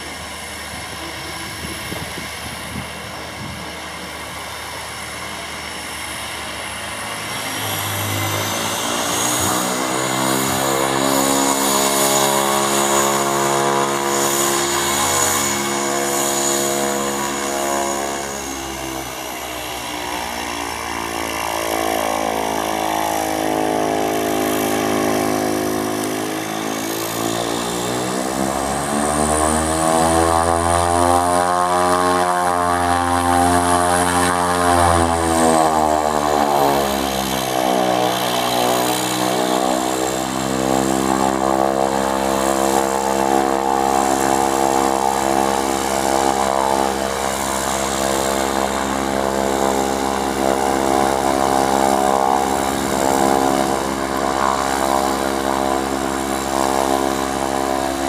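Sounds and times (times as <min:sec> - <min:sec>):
turboprop aircraft engine: 0:00.0 - 0:58.0.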